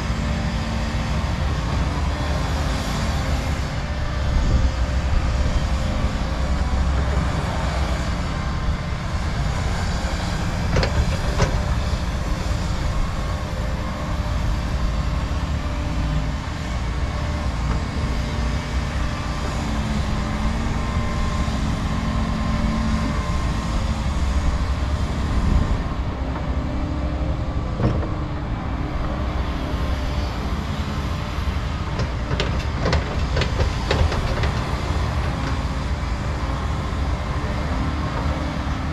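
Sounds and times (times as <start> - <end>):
excavator diesel engines rumbling: 0.0 - 38.9.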